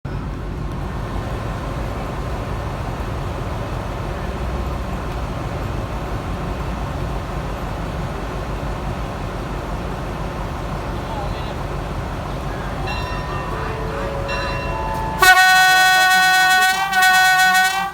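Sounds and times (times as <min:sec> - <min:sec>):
train rumbling inside carriage: 0:00.1 - 0:17.9.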